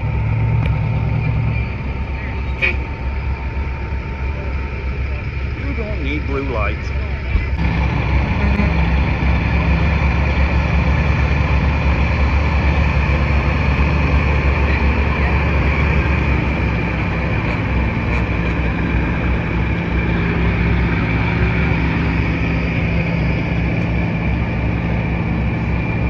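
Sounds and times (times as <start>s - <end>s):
diesel truck engine idling: 0.0s - 26.0s
high-pitched whine: 0.0s - 26.0s.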